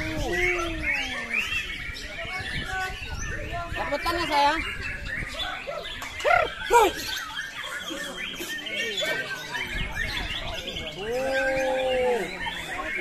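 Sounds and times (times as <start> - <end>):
birds singing: 0.0 - 13.0
people calling loudly: 0.0 - 13.0.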